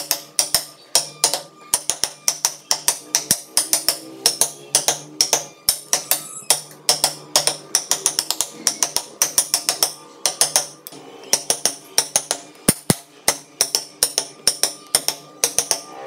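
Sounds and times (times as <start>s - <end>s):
chisel tapping into wood: 0.0s - 15.8s.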